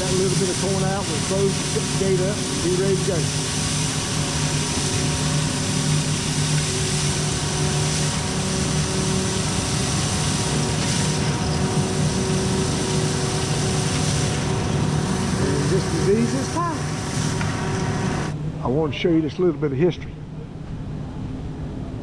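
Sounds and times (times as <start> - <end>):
machinery humming drone: 0.0 - 22.0.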